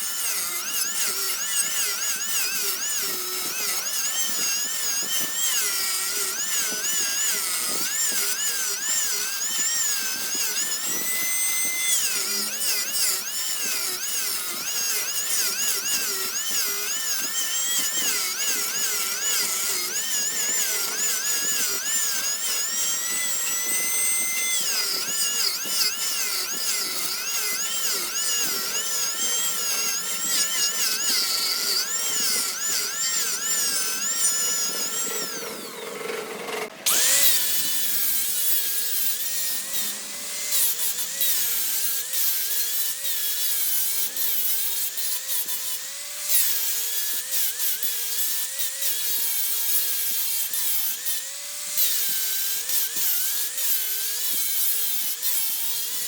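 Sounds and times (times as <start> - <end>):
power tool whining on wood: 0.0 - 56.0.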